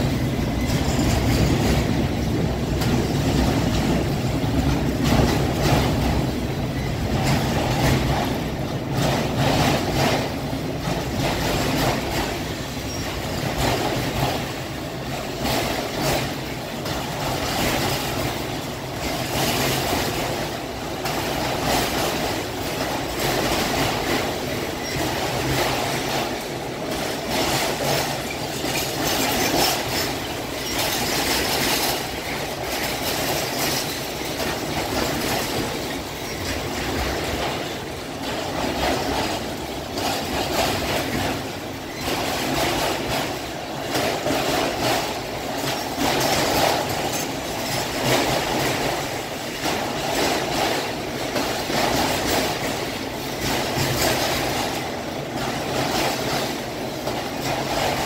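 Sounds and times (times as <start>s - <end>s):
freight cars rumbling on rails: 0.0s - 58.0s.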